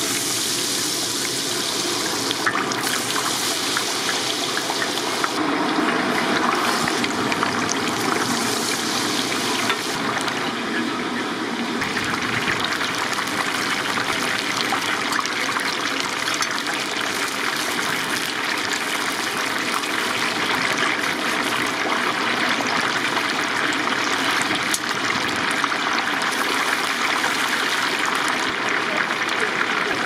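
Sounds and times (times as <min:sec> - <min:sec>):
chicken deep-frying in oil: 0:00.0 - 0:30.0.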